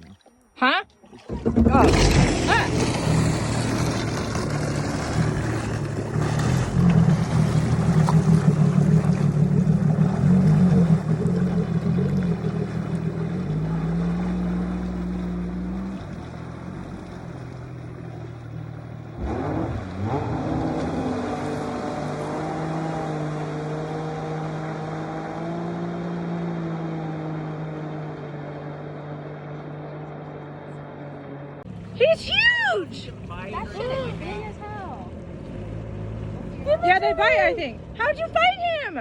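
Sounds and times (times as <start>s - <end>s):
motorboat engine running: 0.0s - 39.0s.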